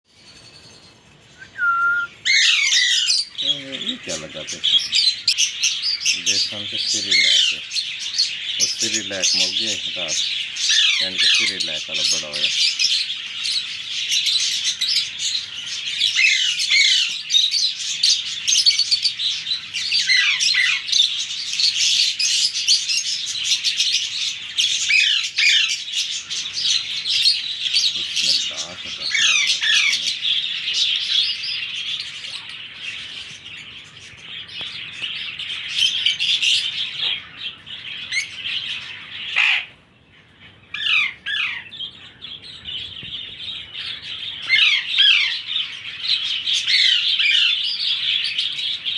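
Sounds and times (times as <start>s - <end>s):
parakeet chicks squawking: 2.1s - 48.9s.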